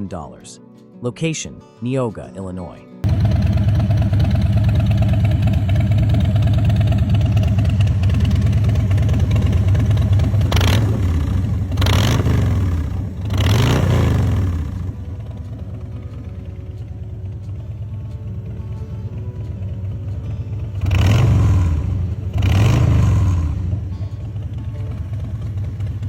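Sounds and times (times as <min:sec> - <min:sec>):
motorcycle engine idling: 0:03.0 - 0:26.0
motorcycle engine revving: 0:03.0 - 0:26.0.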